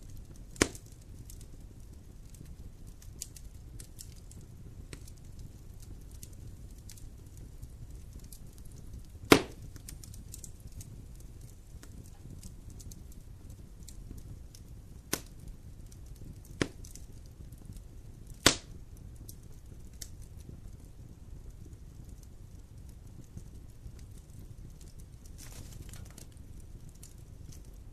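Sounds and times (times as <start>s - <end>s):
campfire crackling: 0.0s - 27.9s
loud pops from burning wood: 0.0s - 27.9s.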